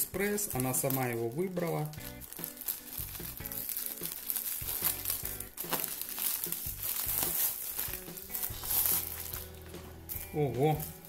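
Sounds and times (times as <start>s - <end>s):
light background music: 0.0s - 11.0s
plastic packaging crinkling: 0.0s - 11.0s.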